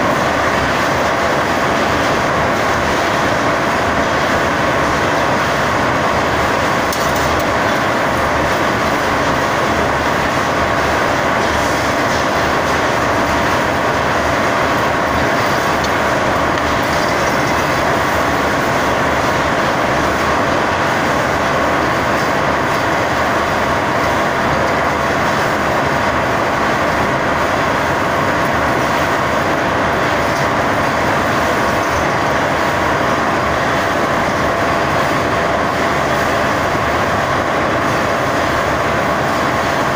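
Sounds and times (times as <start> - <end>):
industrial machinery whining: 0.0 - 39.8.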